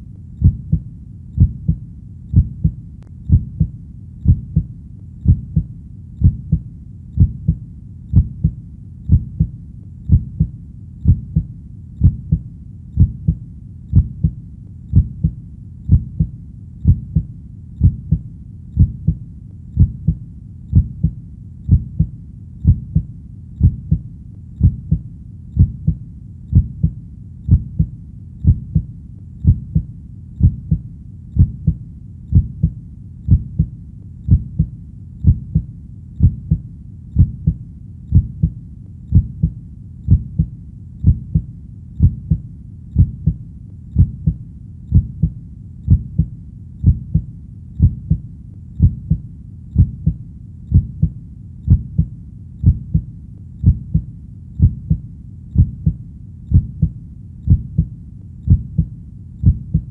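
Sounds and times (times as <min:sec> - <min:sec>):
faint low hum: 0:00.0 - 0:59.9
heartbeat: 0:00.0 - 0:59.9.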